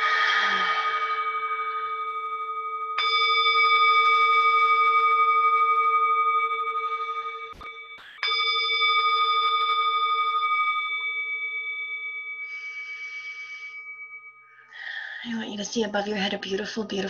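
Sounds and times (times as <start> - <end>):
meditation bell ringing: 0.0 - 15.6.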